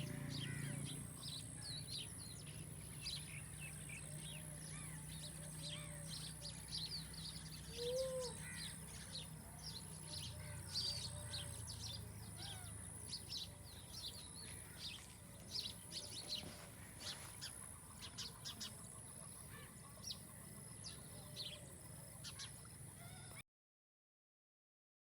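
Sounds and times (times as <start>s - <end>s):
small birds chirping: 0.0s - 23.4s.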